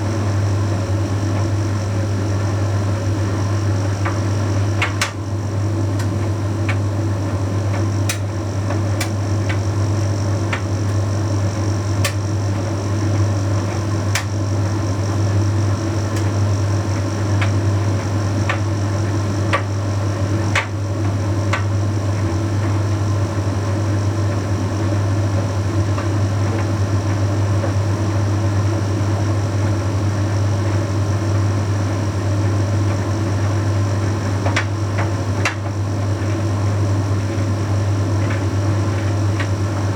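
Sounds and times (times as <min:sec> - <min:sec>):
tumble dryer humming and whirring: 0:00.0 - 0:39.9.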